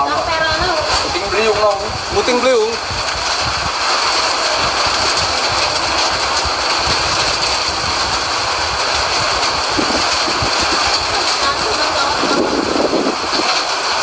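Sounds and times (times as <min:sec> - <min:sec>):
strong wind gusting: 0:00.0 - 0:14.0.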